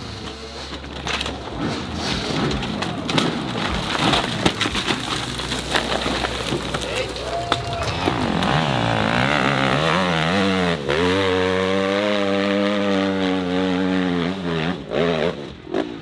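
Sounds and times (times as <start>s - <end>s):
dirt bike engine revving: 0.0s - 4.6s, 7.8s - 16.0s.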